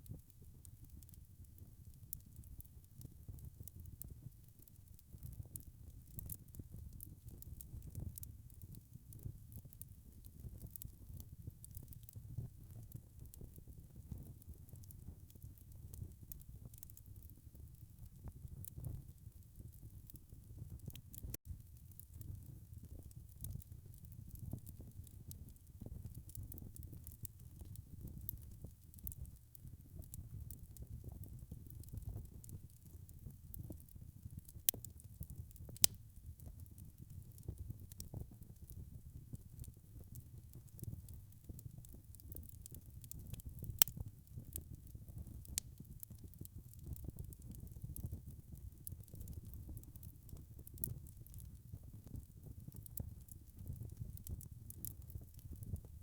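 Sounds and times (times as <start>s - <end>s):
fire popping and snapping: 0.0s - 56.0s
low rumble of flames: 0.0s - 56.0s
wood fire crackling: 0.0s - 56.0s.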